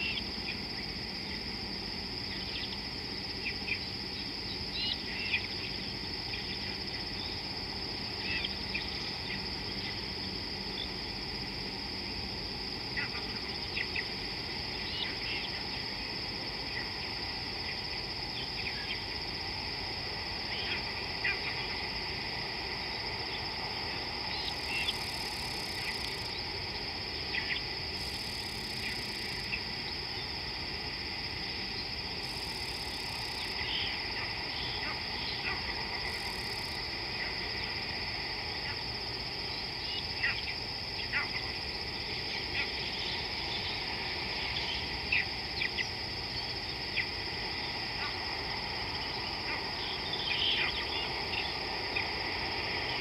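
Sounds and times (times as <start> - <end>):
insect drone: 0.0 - 53.0
soft hiss: 0.0 - 53.0.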